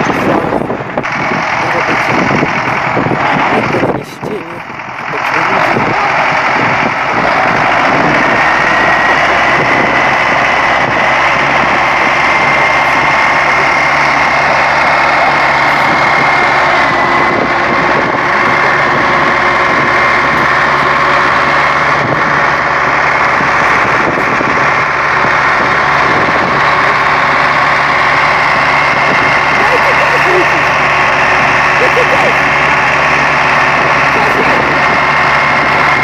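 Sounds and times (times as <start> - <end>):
tractor engines straining: 0.0 - 36.0.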